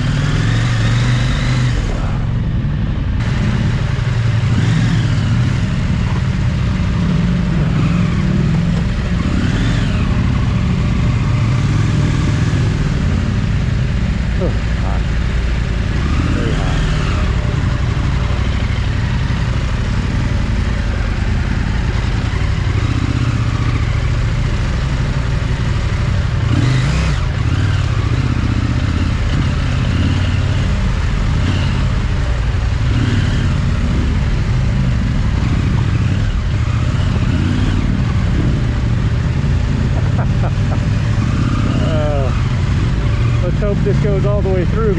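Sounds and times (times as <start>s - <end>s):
motorcycle engine rumble: 0.0s - 44.9s.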